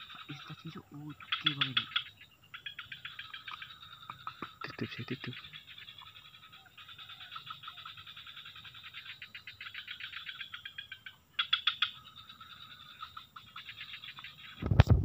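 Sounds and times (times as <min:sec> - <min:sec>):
small animals trilling: 0:00.0 - 0:15.0.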